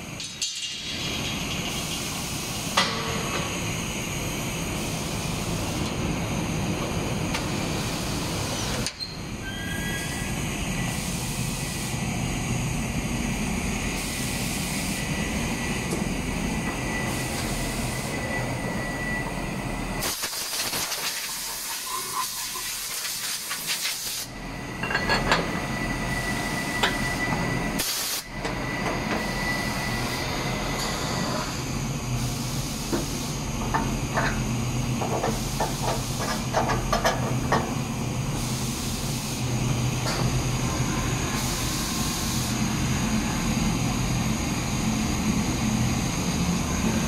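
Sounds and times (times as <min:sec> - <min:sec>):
rushing hiss of air with whine: 0:03.4 - 0:24.8, 0:25.5 - 0:33.6, 0:38.0 - 0:47.0.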